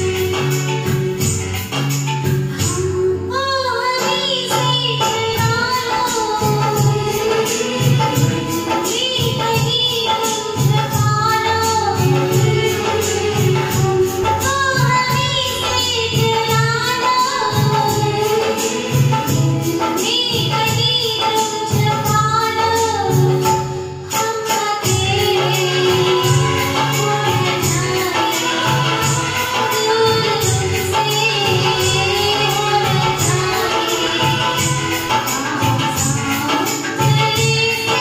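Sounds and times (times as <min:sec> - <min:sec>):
woman singing: 0:00.0 - 0:01.8, 0:02.5 - 0:38.0
karaoke backing track with beat: 0:00.0 - 0:38.0.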